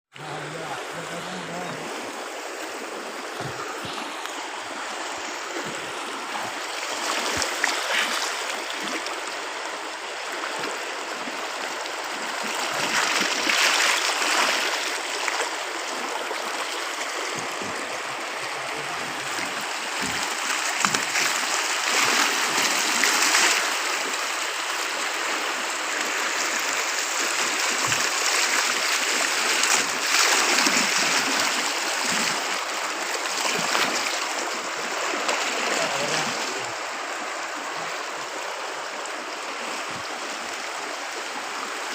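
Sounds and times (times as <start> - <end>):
floodwater rushing: 0.1 - 41.9.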